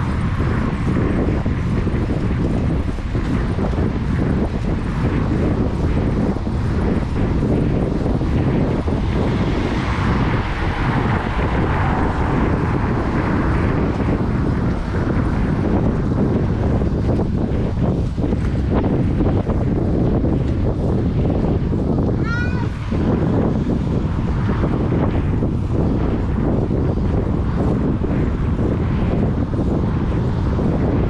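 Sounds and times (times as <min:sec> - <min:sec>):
rushing sound: 0:00.0 - 0:31.0
wind rumble on microphone: 0:00.0 - 0:31.0.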